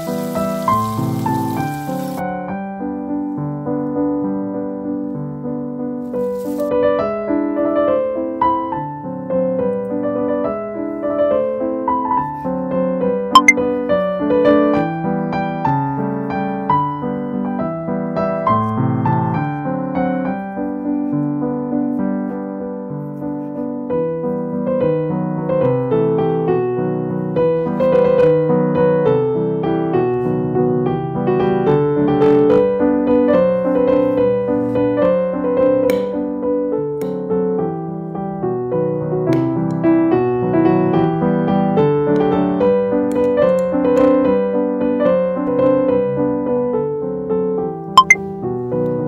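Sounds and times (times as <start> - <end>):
background piano music: 0.0 - 49.0.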